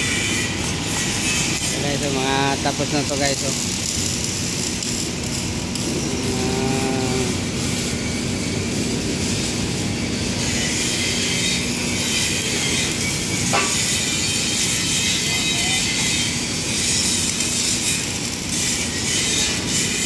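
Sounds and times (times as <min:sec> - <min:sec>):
machinery hum and hiss: 0:00.0 - 0:20.0.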